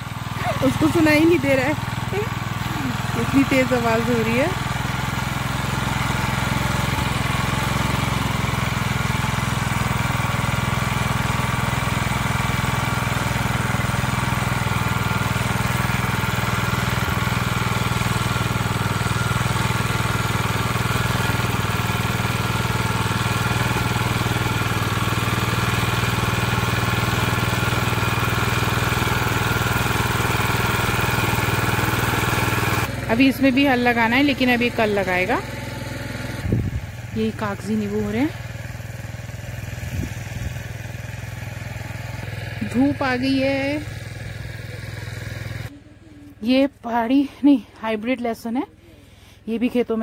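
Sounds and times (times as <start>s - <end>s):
power tiller engine running: 0.0s - 47.4s.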